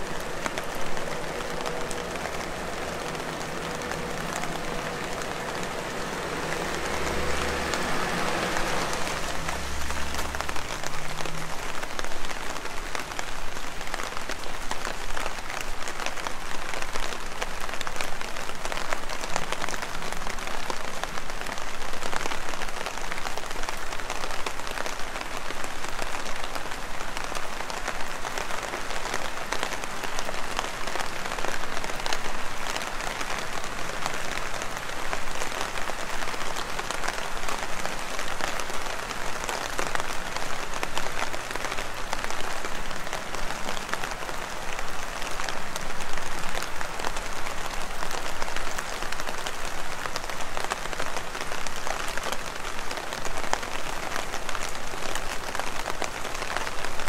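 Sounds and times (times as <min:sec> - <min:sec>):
heavy rain on hard surfaces: 0:00.0 - 0:57.0.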